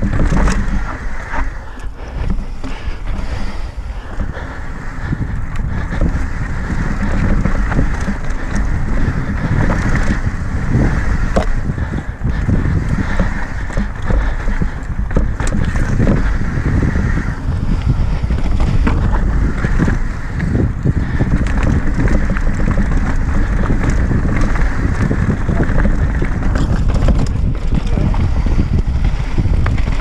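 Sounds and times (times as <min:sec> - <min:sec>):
bike knocking and rattling: 0:00.0 - 0:30.0
wind buffeting microphone: 0:00.0 - 0:30.0.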